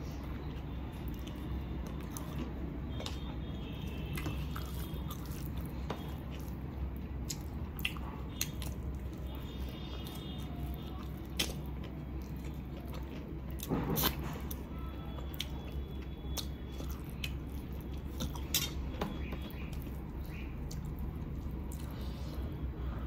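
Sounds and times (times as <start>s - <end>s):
steady low hum: 0.0s - 23.0s
chewing with wet mouth clicks: 0.1s - 22.2s.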